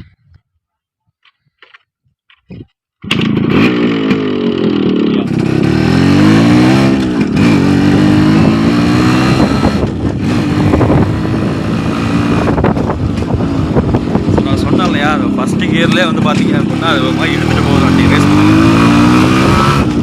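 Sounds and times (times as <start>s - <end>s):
motorcycle engine revving: 3.0s - 20.0s.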